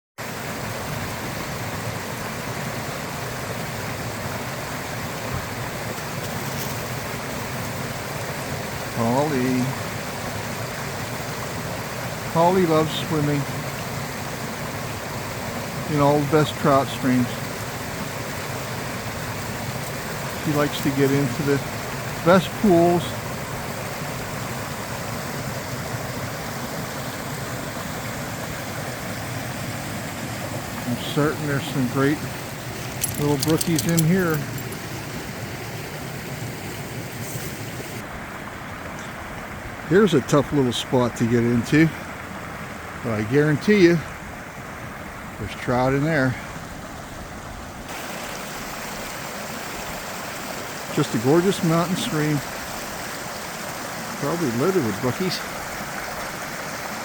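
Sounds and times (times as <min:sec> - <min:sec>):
brook rushing over rocks: 0:00.2 - 0:44.1, 0:47.9 - 0:57.0.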